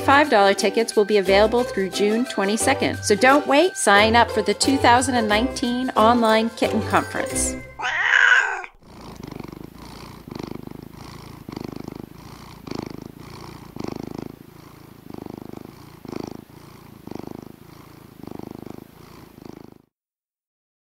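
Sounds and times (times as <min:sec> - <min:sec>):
cat purring: 0:00.0 - 0:19.9.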